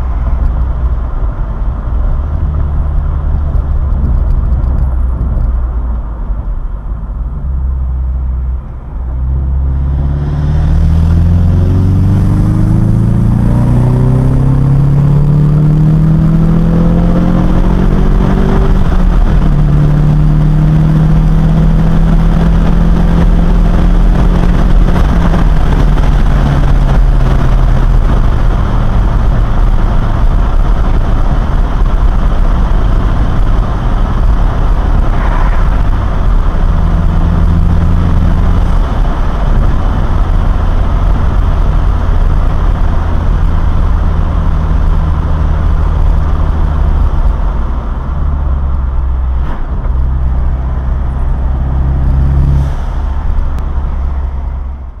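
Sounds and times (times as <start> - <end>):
car engine while driving: 0.0 - 55.0
road and wind noise: 0.0 - 55.0.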